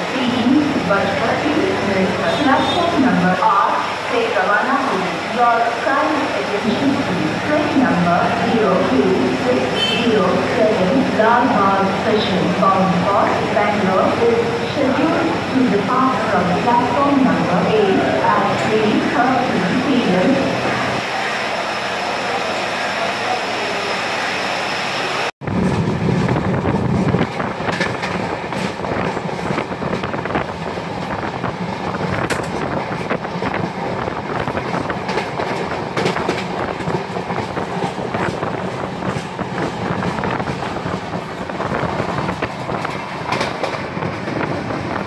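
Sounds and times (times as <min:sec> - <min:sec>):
train carriage rumbling: 0:00.0 - 0:45.0.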